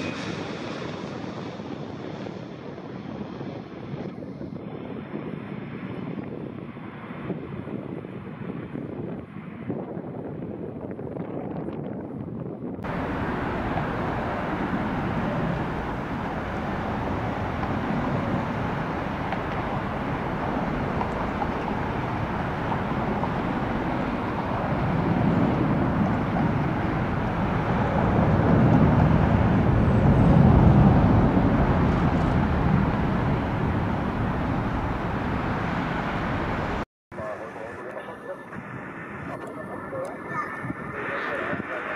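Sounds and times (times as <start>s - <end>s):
jet engines roaring: 0.0s - 10.7s, 12.8s - 41.9s.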